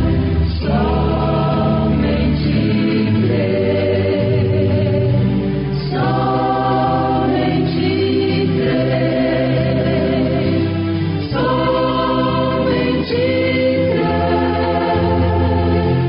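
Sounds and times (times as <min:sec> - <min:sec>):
choir singing gospel chords: 0:00.0 - 0:16.0.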